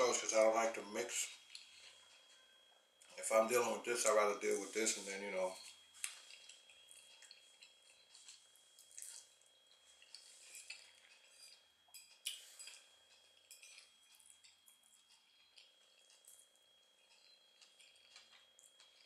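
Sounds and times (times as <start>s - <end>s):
soft chewing: 0.8s - 3.2s, 4.6s - 19.0s.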